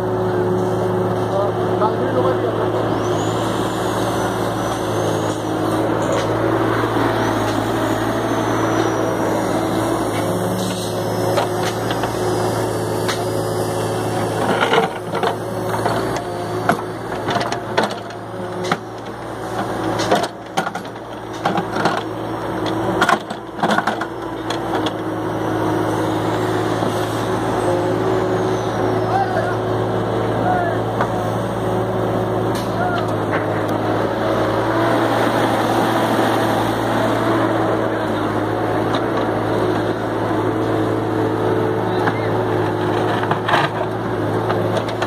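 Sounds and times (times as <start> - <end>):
mini excavator running: 0.0 - 45.0.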